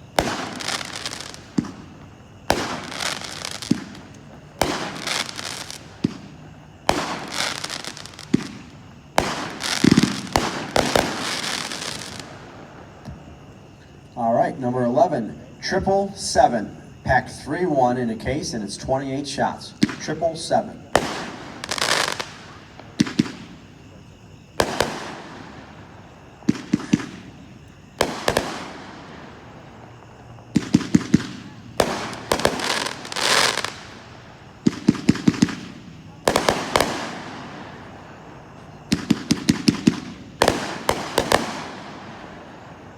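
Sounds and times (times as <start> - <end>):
firework reports with crackling: 0.0 - 42.9.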